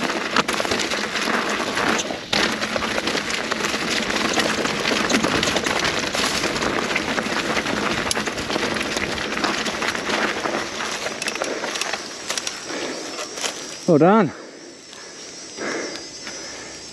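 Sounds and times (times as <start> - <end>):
bike tyres rolling over leaves: 0.0 - 16.9.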